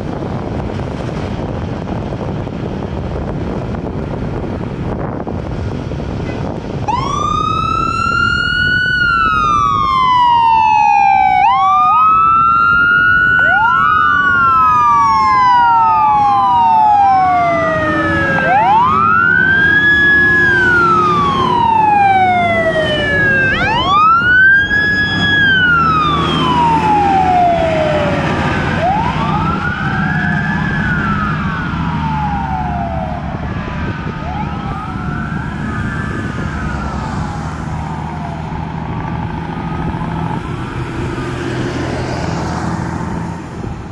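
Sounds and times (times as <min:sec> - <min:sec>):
fire engine sirens wailing: 0:00.0 - 0:43.9.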